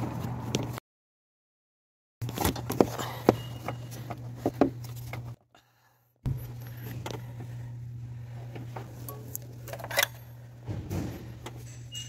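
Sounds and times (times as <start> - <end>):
steady low hum: 2.2 - 12.0.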